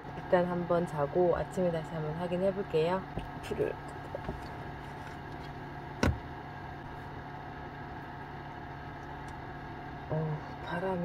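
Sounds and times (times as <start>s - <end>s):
fan heater whirring: 0.0s - 11.0s.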